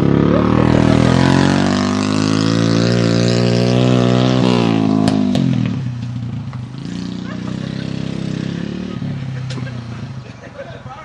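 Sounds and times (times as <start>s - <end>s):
small motorbike engine revving: 0.0s - 10.2s.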